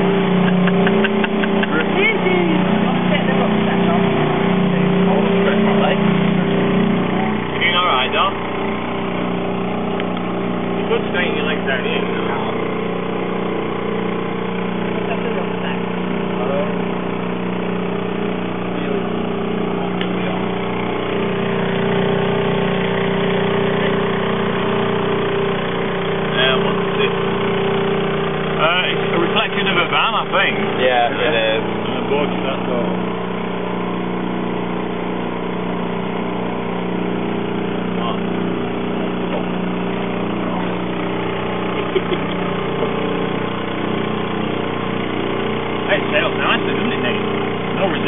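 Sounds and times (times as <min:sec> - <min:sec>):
outboard motor droning: 0:00.0 - 0:48.0.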